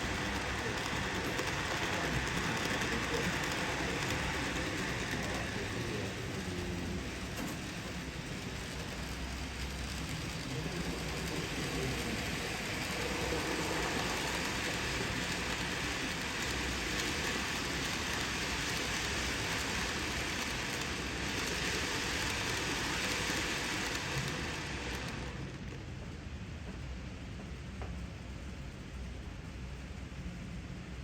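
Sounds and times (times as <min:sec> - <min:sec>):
model trains rolling hiss: 0:00.0 - 0:31.0.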